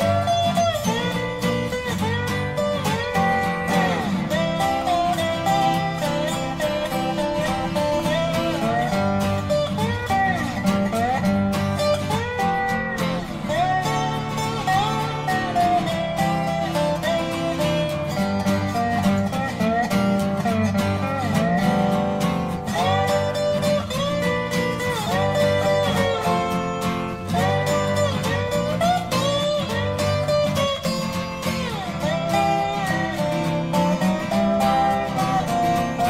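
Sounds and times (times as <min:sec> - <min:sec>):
country guitar song: 0:00.0 - 0:36.0.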